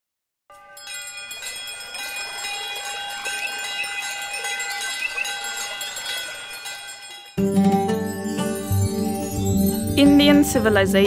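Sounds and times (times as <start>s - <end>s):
bells and chimes ringing: 0.5s - 11.0s.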